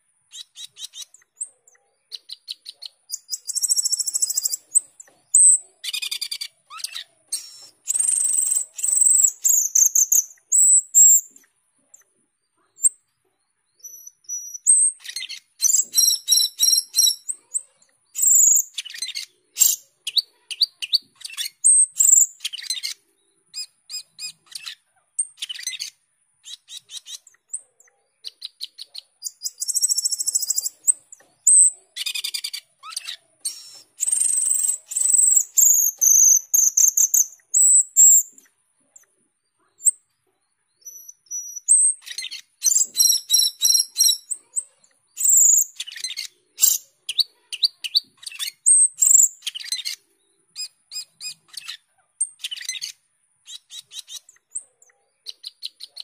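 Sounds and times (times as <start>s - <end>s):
starling singing: 0.3s - 11.5s, 13.8s - 38.5s, 40.8s - 56.0s.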